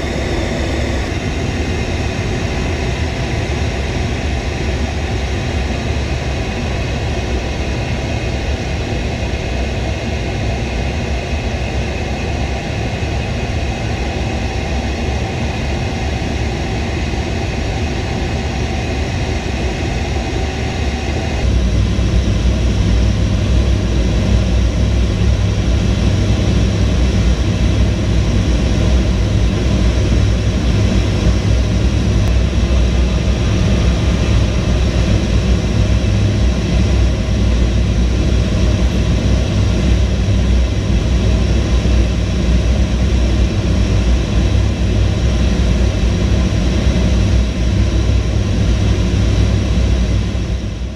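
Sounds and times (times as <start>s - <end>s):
jet aircraft drone: 0.0s - 50.9s.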